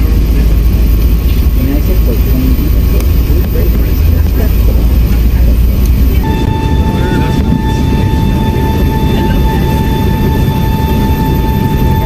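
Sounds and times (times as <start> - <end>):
cabin engine low rumble: 0.0 - 12.0
high whine: 0.0 - 12.0.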